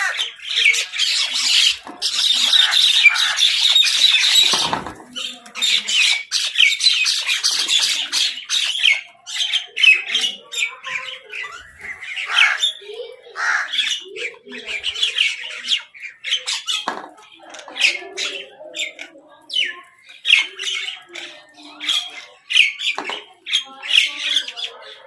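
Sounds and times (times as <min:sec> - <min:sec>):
crows and mynahs squawking: 0:00.0 - 0:25.0.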